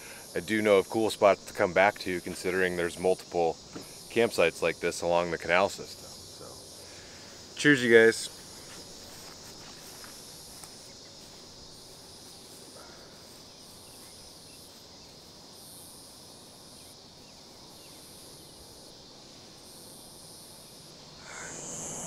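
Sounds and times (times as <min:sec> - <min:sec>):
crickets trilling: 0:00.0 - 0:22.0
high insect buzzing: 0:00.0 - 0:22.0.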